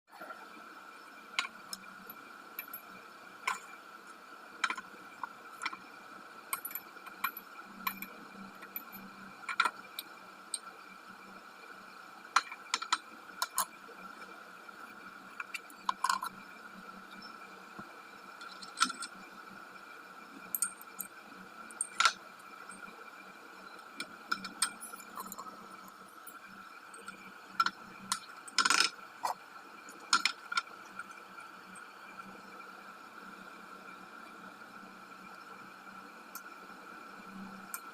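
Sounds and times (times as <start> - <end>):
faint high-pitched hum: 0.1 - 37.9.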